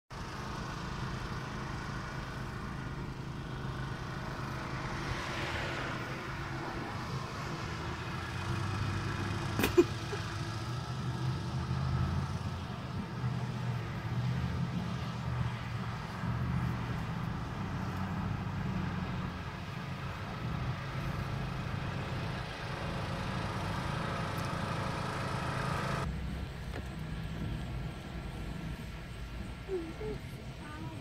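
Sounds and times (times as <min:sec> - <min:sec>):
car engines humming: 0:00.1 - 0:31.0
car passing: 0:00.2 - 0:31.0.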